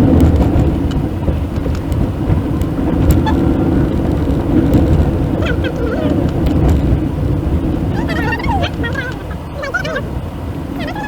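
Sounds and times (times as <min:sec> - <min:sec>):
car cabin road and engine rumble: 0:00.0 - 0:11.0
faint clicks: 0:00.1 - 0:10.0.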